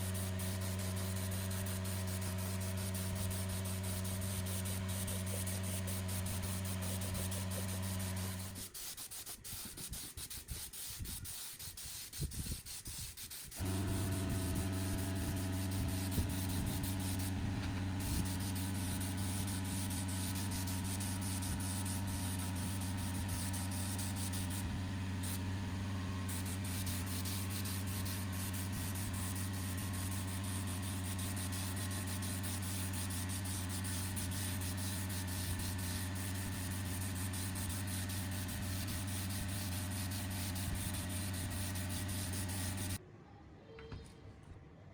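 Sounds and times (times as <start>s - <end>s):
grinding tool on metal: 0.0s - 43.0s.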